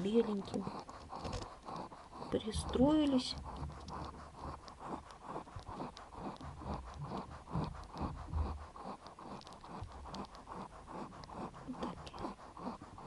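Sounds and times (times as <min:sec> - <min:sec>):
puppies suckling: 0:00.0 - 0:13.0.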